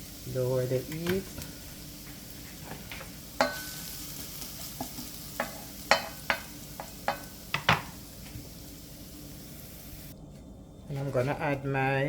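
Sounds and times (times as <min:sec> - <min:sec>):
garlic sizzling in oil: 0:00.0 - 0:10.1.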